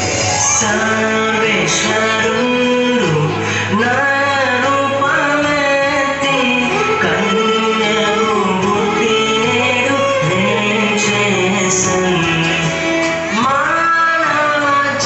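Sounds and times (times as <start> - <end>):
instrumental backing: 0.0 - 15.0
man singing: 0.0 - 15.0.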